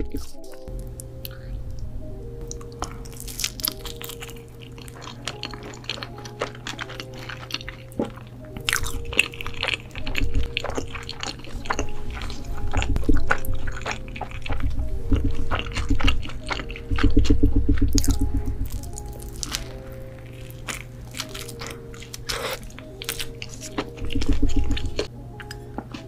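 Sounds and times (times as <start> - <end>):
soft background music: 0.0 - 26.0
wet chewing and smacking: 0.2 - 26.0.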